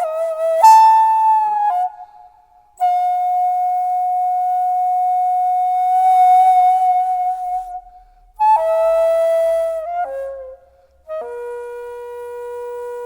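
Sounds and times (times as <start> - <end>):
bamboo flute melody: 0.0 - 13.0.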